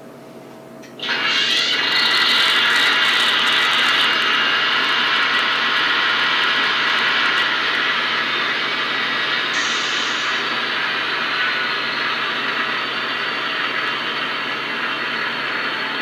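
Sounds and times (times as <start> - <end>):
diesel locomotive engine through tiny speaker: 0.8 - 16.0.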